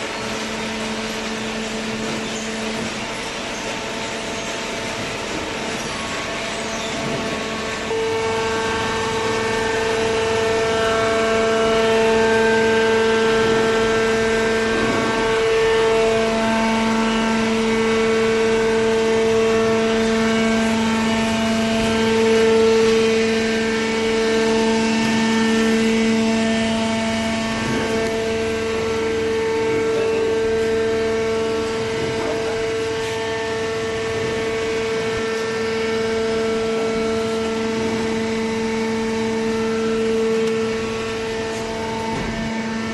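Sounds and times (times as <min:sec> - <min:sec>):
baler machine drone: 0:00.0 - 0:42.9
machine whine: 0:00.0 - 0:42.9.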